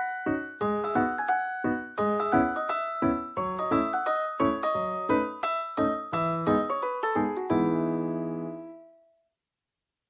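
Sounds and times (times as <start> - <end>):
light keyboard melody: 0.0 - 9.2.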